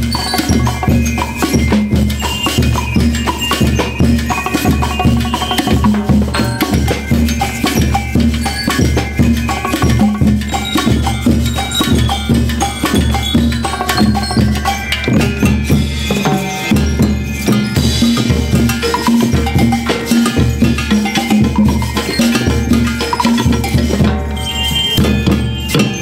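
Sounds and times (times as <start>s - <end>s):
drums and percussion beat: 0.0s - 26.0s
pitched melody: 0.0s - 26.0s.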